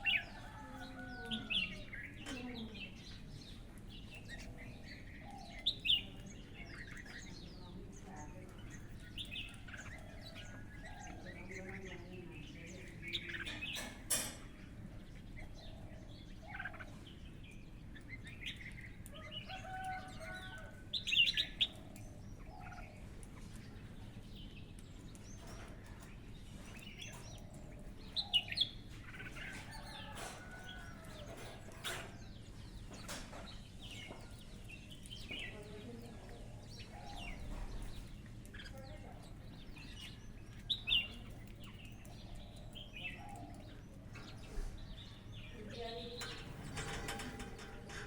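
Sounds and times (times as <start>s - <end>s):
birds calling and chirping: 0.0s - 48.0s.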